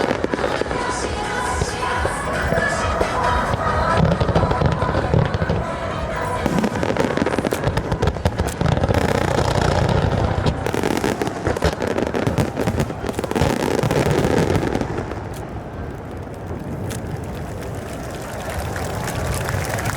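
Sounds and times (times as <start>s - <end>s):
fireworks bangs and crackling: 0.0s - 19.9s.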